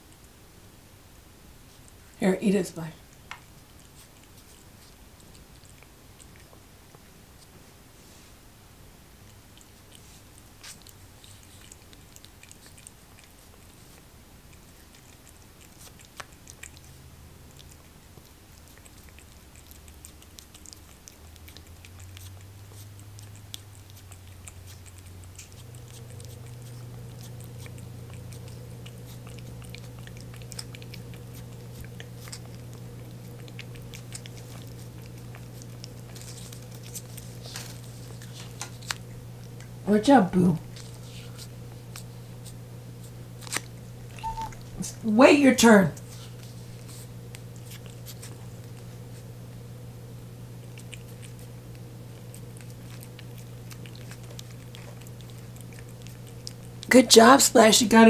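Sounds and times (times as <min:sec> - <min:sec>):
steady low hum: 0:00.0 - 0:58.0
cat licking wet clicks: 0:09.2 - 0:39.8, 0:40.6 - 0:45.0, 0:46.0 - 0:58.0.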